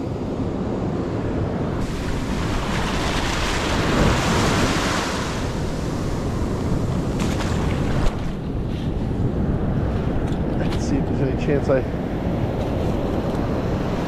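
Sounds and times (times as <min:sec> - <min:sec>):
ocean surf washing over sand: 0:00.0 - 0:14.0.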